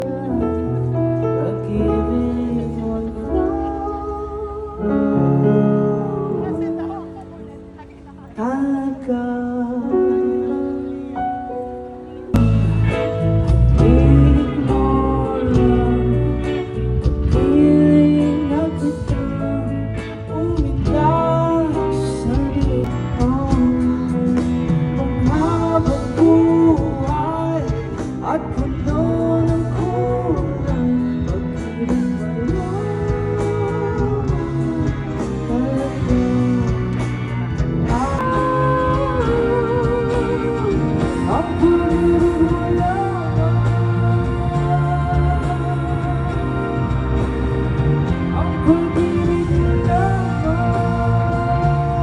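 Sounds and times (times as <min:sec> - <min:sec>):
live pop band with guitar and bass: 0:00.0 - 0:52.0
person singing: 0:00.0 - 0:52.0.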